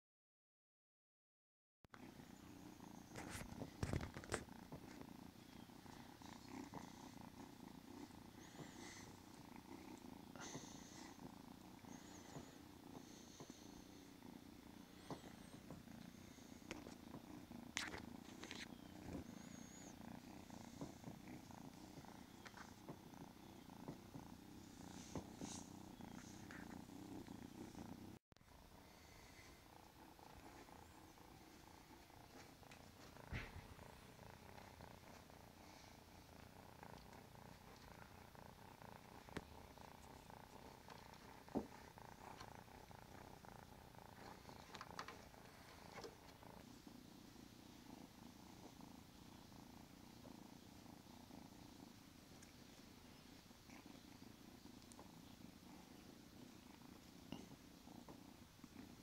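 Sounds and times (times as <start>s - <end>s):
kitten purring: 2.0s - 59.0s.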